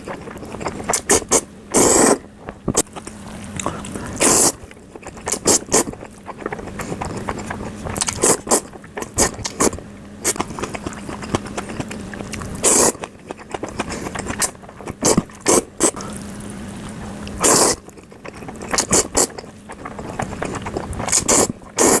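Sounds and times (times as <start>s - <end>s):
noodle slurping: 0.0s - 2.2s, 3.5s - 22.0s
wet chewing clicks: 0.0s - 16.2s, 17.2s - 22.0s.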